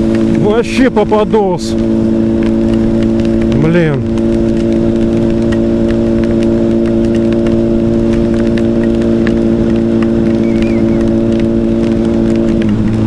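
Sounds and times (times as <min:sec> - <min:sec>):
light ticks of rain: 0:00.0 - 0:13.0
motorcycle engine cruising: 0:00.0 - 0:13.0
wet road noise: 0:00.0 - 0:13.0.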